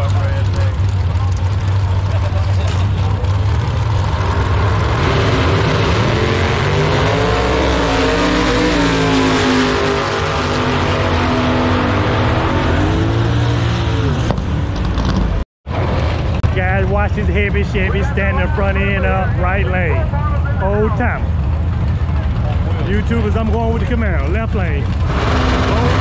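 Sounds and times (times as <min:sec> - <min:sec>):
drag car engines racing: 0:00.0 - 0:26.0.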